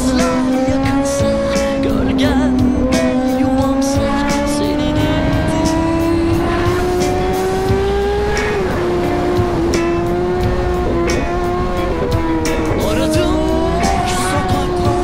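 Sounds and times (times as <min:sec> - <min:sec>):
motorcycle engine at high revs: 0:00.0 - 0:15.0
song with beat: 0:00.0 - 0:15.0.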